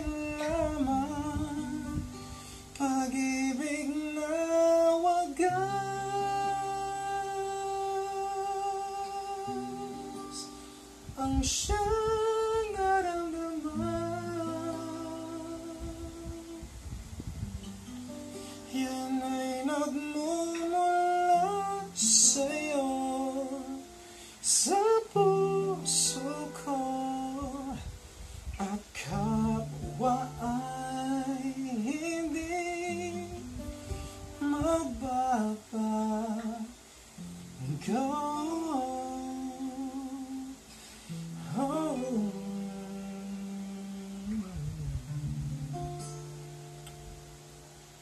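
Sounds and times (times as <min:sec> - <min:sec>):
man singing: 0:00.0 - 0:16.8, 0:18.6 - 0:28.0, 0:28.6 - 0:36.8, 0:37.6 - 0:40.6, 0:41.2 - 0:44.8
acoustic guitar: 0:00.0 - 0:48.0.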